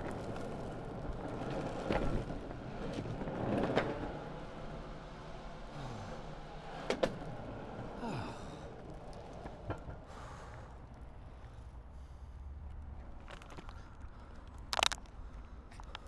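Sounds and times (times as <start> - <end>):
longboard wheels rolling on tarmac: 0.0 - 16.0.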